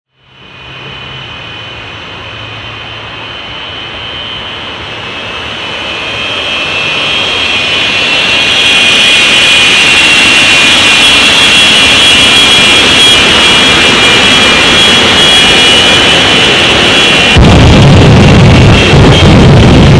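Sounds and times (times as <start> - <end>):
jet engine whine and rush: 0.1 - 19.9.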